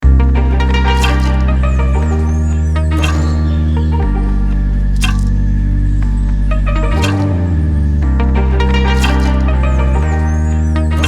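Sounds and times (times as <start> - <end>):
music with held bass: 0.0 - 11.0.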